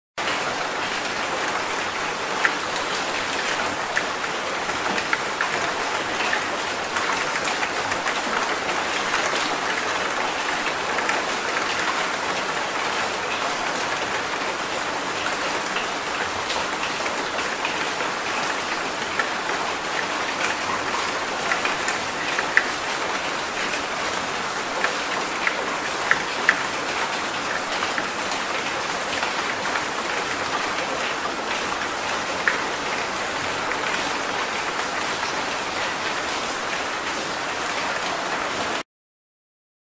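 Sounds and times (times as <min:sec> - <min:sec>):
steady rain falling: 0:00.2 - 0:38.8.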